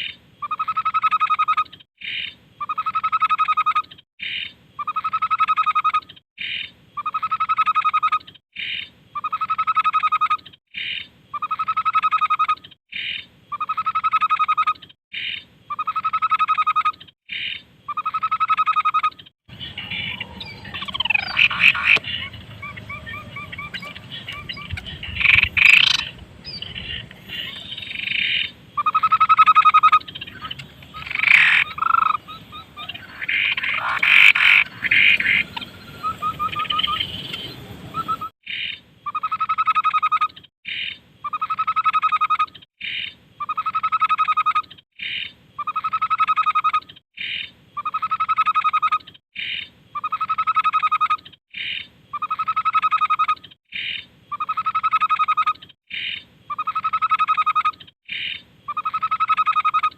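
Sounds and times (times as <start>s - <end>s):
babbler bird calling: 2.6s - 59.9s.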